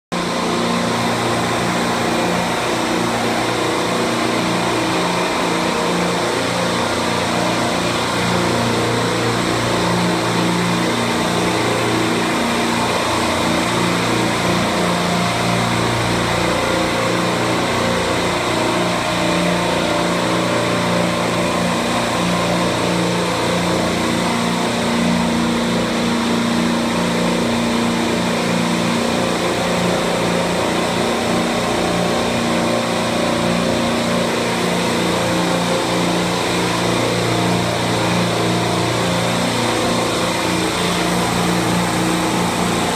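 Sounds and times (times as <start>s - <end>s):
compressors humming: 0.2s - 42.9s.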